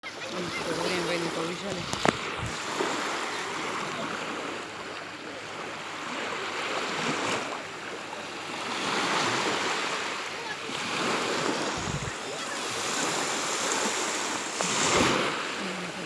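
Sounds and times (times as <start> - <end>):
waves washing onto shore: 0.0 - 16.0.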